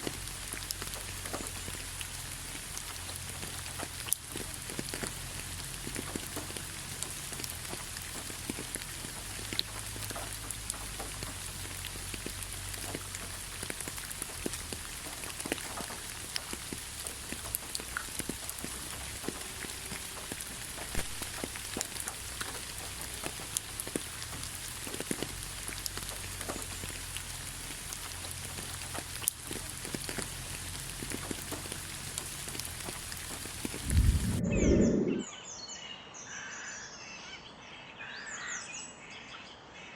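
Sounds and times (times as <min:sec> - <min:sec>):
raindrops ticking on surfaces: 0:00.0 - 0:34.4
rain falling: 0:00.0 - 0:34.8.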